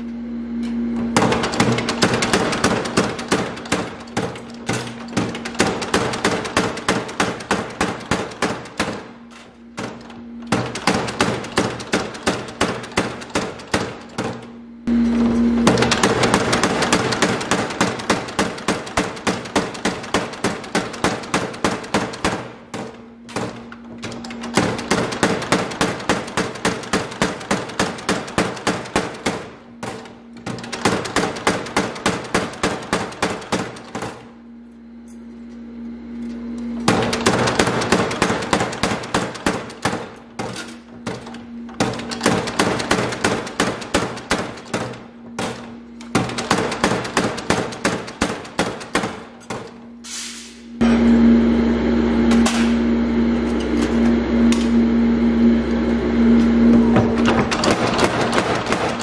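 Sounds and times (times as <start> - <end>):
machine hum: 0.0 - 59.0
power hammer pounding hot steel: 0.6 - 35.0, 36.1 - 59.0.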